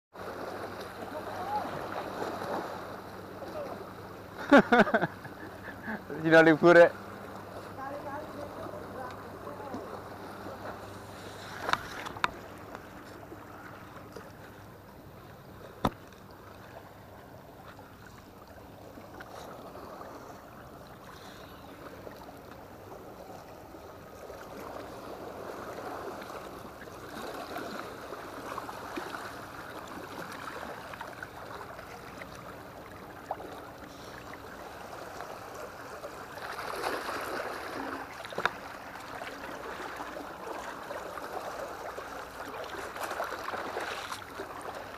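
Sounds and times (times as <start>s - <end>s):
water lapping against seawall: 0.1s - 44.9s.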